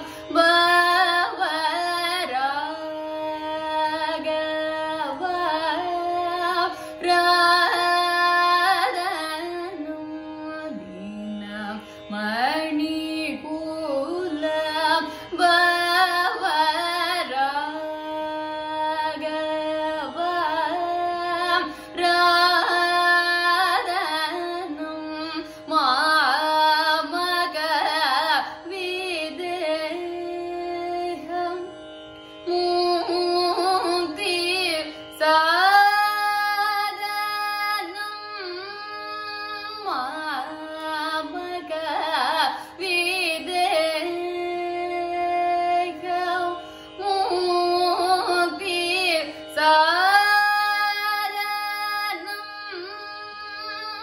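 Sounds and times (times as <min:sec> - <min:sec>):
woman singing ornamented phrases: 0:00.0 - 0:31.7, 0:32.5 - 0:54.0.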